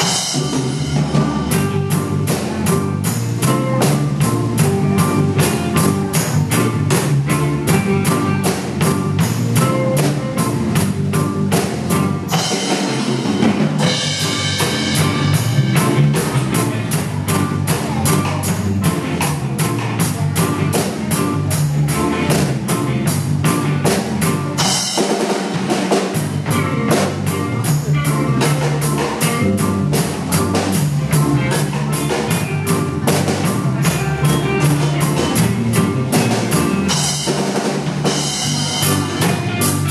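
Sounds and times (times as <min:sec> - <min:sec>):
backing track bass line: 0:00.0 - 0:39.9
drum kit groove: 0:00.0 - 0:39.9.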